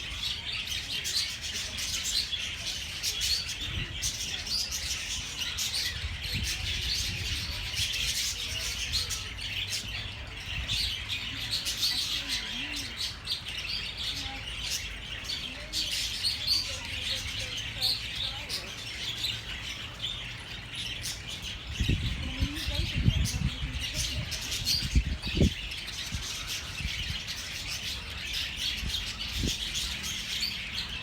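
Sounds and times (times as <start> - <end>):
many birds chirping: 0.0 - 31.0.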